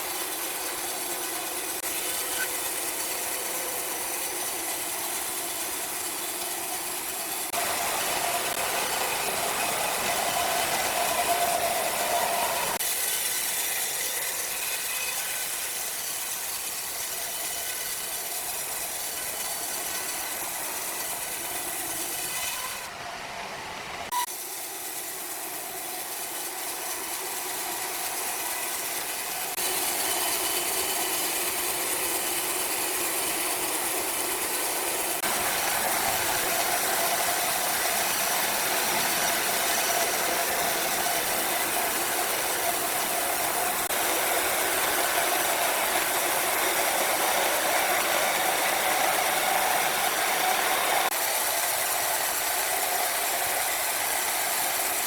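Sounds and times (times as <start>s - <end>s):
sawmill machinery whirring: 0.0s - 55.0s.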